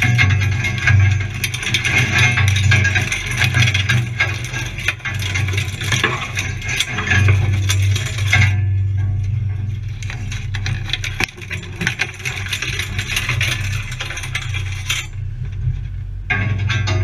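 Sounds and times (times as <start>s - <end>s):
vehicle engine droning: 0.0s - 17.0s
vehicle rattling and clattering: 0.0s - 17.0s.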